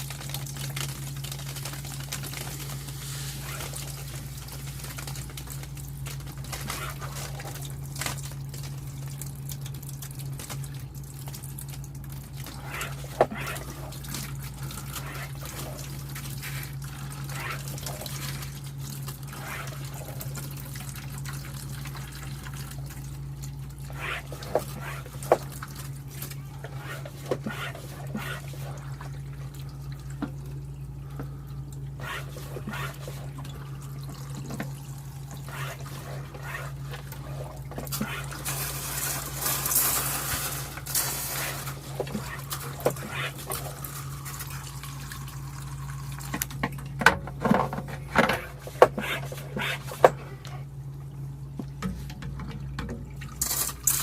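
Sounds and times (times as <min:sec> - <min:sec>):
steady low hum: 0:00.0 - 0:54.0
water running and trickling: 0:00.0 - 0:54.0.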